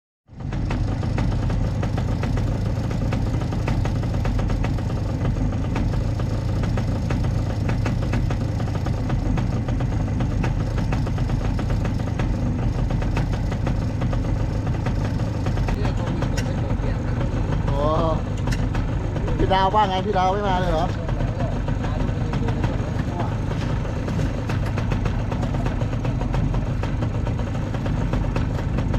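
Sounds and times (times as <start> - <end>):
engine humming: 0.3 - 28.9.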